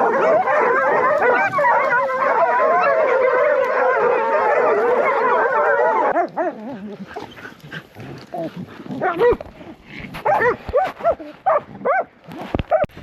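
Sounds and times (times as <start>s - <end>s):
hounds baying: 0.0s - 12.1s.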